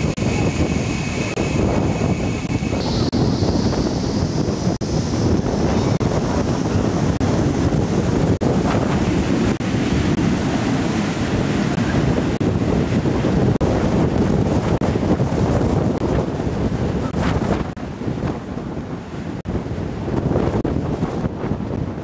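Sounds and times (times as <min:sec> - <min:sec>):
jet engine roar: 0:00.0 - 0:21.4
wind buffeting microphone: 0:00.0 - 0:22.0.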